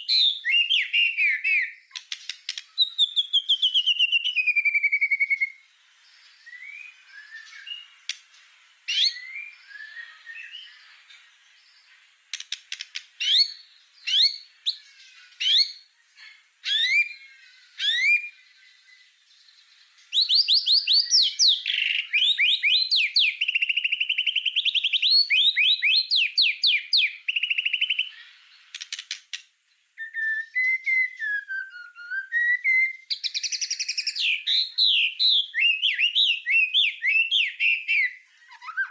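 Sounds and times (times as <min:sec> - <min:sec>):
songbird whistling song: 0:00.0 - 0:38.9.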